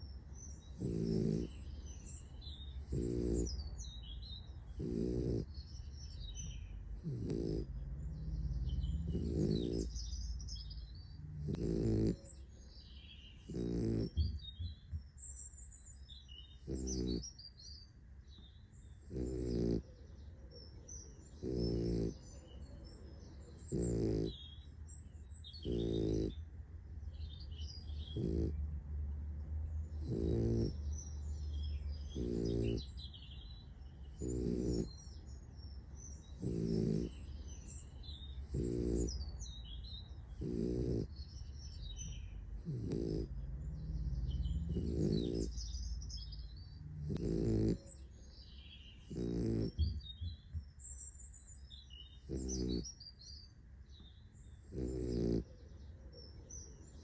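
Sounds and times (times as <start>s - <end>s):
puppy snoring: 0.0s - 17.4s, 18.8s - 20.0s, 21.3s - 22.7s, 23.4s - 26.5s, 27.1s - 28.8s, 29.7s - 53.2s, 54.0s - 55.8s.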